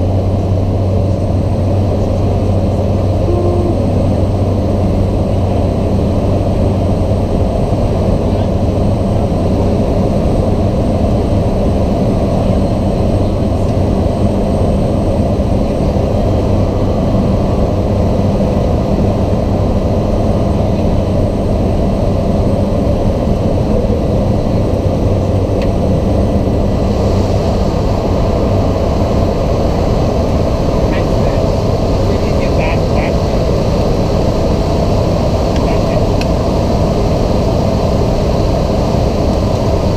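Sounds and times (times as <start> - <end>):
turboprop engine droning: 0.0 - 39.9.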